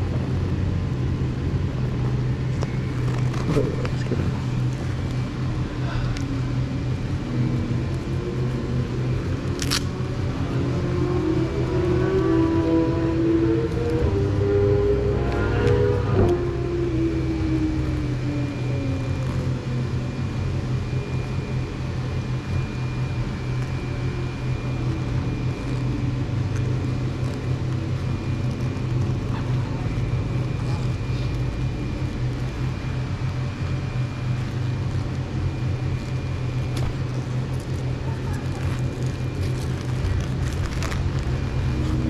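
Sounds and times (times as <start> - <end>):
car engine idling: 0.0 - 42.0
higher engine note: 0.0 - 42.0
thin high whine: 0.0 - 42.0.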